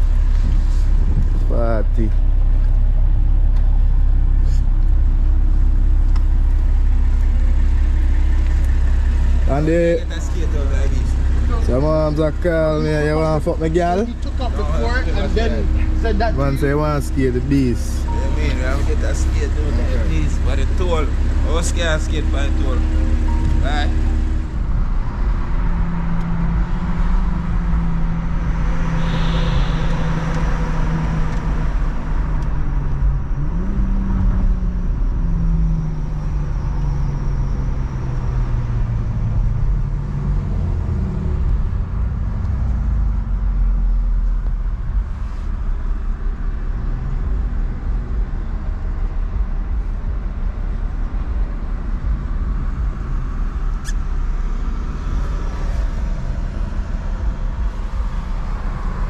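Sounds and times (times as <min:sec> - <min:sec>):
car engine running: 0:00.0 - 0:59.0
road rumble: 0:00.0 - 0:59.0.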